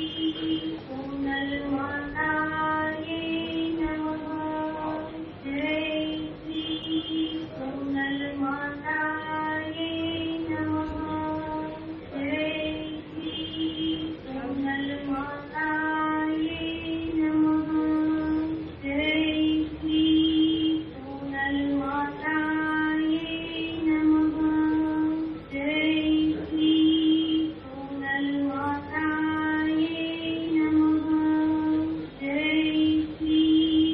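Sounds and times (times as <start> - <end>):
woman singing a hymn: 0.0 - 33.9.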